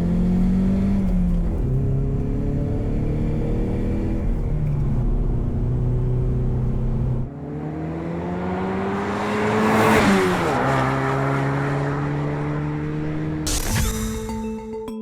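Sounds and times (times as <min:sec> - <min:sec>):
car engine running: 0:00.0 - 0:09.5, 0:10.7 - 0:14.7.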